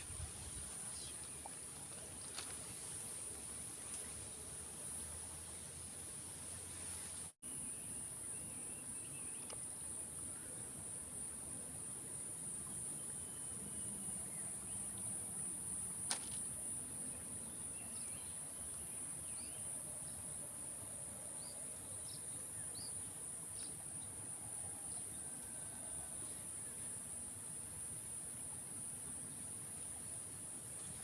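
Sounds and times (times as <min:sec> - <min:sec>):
insect chorus: 0:00.0 - 0:31.0.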